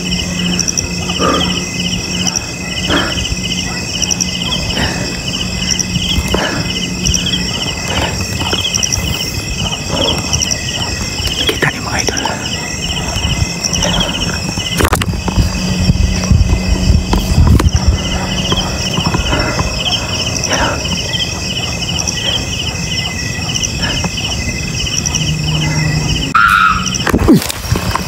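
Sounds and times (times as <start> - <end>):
insects chirping trill: 0.0 - 28.0.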